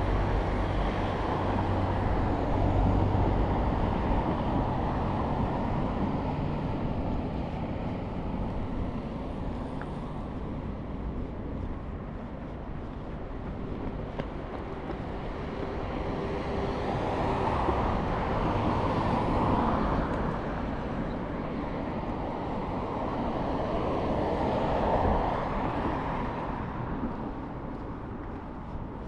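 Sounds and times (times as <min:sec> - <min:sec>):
vehicles passing by: 0:00.0 - 0:29.0.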